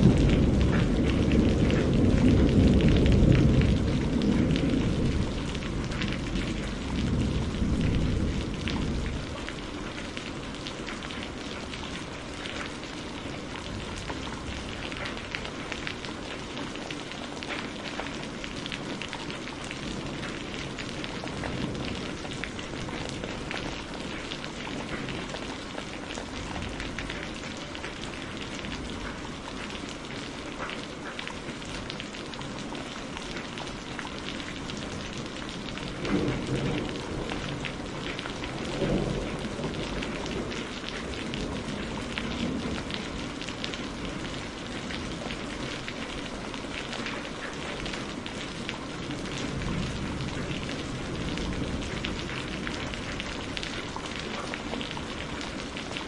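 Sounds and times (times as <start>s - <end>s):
low rumbles of thunder: 0.0s - 29.6s, 34.4s - 56.0s
heavy rain falling: 0.0s - 56.0s.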